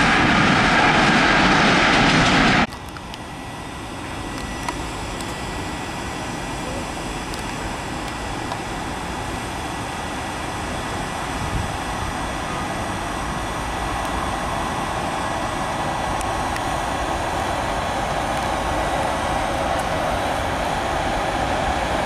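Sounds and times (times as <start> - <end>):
electric locomotive approaching: 0.0 - 22.0
freight train rolling on rails: 0.0 - 22.0.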